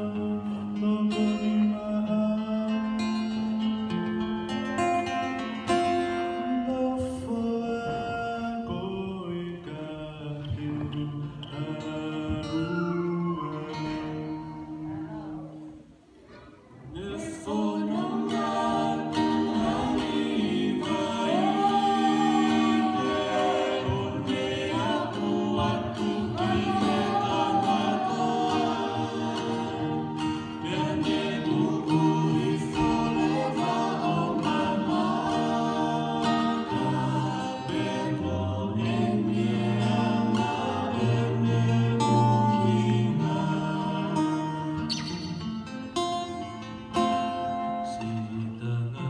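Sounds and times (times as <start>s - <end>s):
acoustic guitar: 0.0s - 49.0s
group singing slow song: 0.0s - 49.0s.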